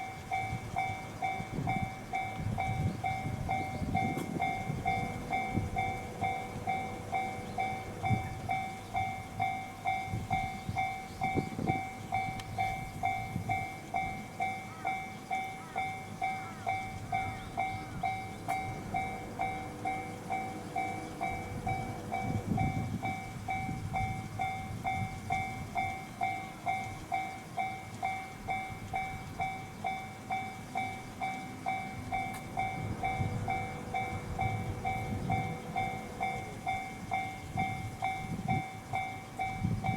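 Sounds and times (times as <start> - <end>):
level crossing warning bell ringing: 0.0 - 39.9
train rumbling past: 0.0 - 39.9.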